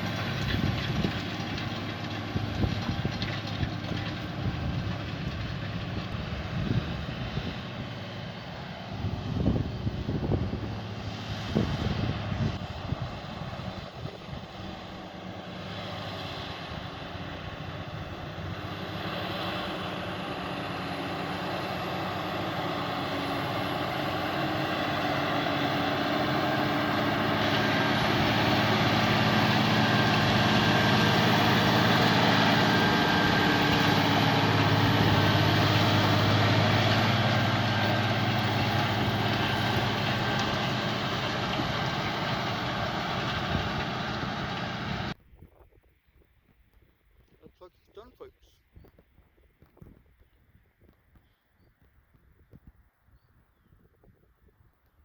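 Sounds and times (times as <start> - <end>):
tractor engine under load: 0.0 - 52.8.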